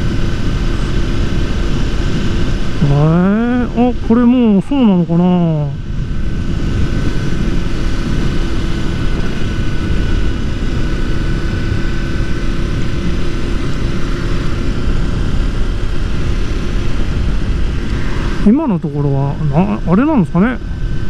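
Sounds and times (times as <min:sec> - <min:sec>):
motorcycle engine drone: 0:00.0 - 0:21.0
wind rushing over microphone: 0:00.0 - 0:21.0.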